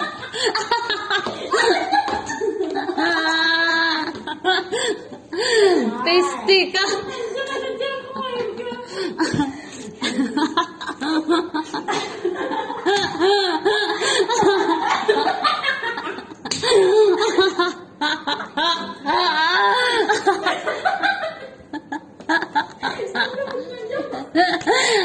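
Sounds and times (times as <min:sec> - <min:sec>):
people laughing hard: 0:00.0 - 0:06.1, 0:06.8 - 0:25.0.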